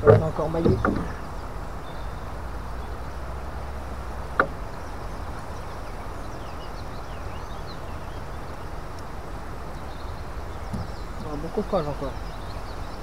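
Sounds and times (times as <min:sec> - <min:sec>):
low outdoor rumble and hiss: 0:00.0 - 0:13.0.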